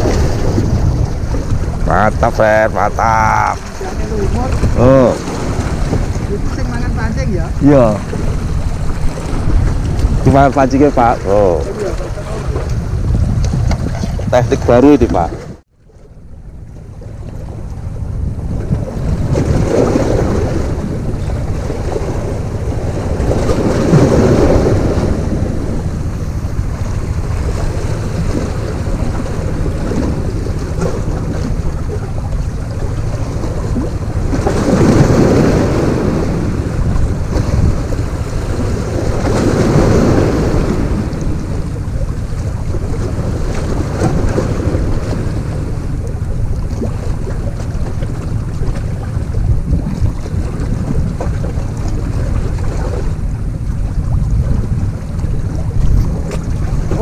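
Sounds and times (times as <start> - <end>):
sea waves against rocks: 0.0 - 57.0
wind rumbling on microphone: 0.0 - 57.0.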